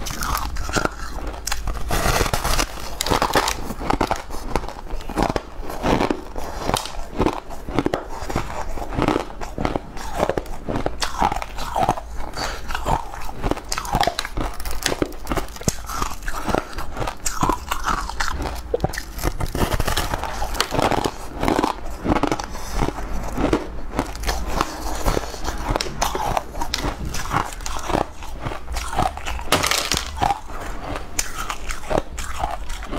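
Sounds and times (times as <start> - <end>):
person crunching hard candy: 0.0 - 32.9.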